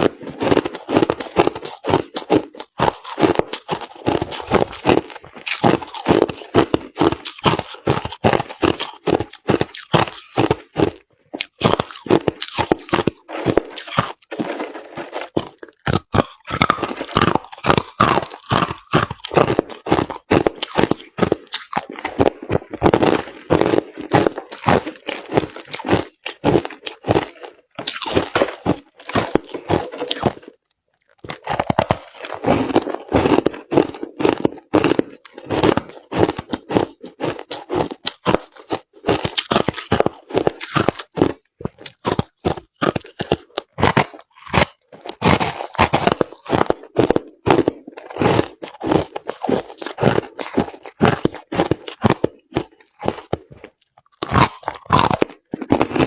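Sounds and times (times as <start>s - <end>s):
crushed ice being chewed: 0.0s - 56.0s.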